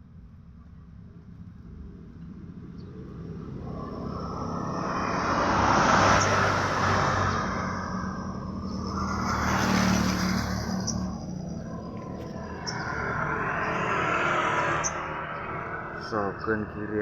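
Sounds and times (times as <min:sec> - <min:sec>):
vehicle approaching: 0:01.1 - 0:17.0
vehicle passing by: 0:02.9 - 0:17.0.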